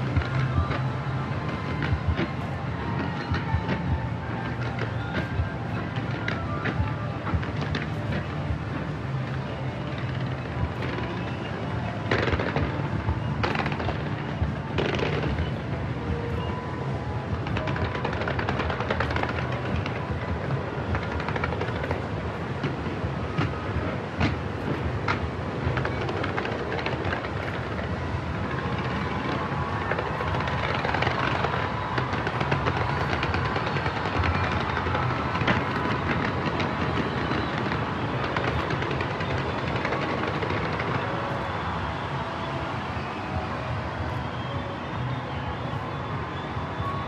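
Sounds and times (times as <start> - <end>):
fireworks bursts rumbling: 0.0 - 47.0
fireworks crackling: 0.0 - 47.0.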